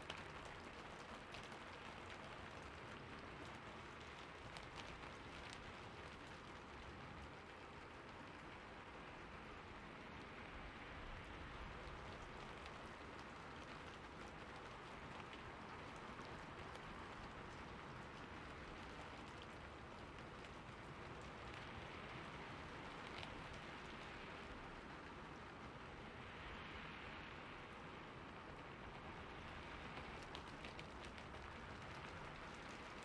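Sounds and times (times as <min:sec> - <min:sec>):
rain hissing: 0:00.0 - 0:33.0
raindrops ticking on a surface: 0:00.0 - 0:33.0.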